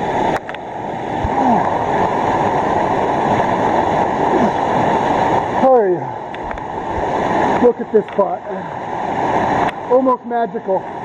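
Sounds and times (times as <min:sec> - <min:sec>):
cascading water rushing: 0:00.0 - 0:11.0.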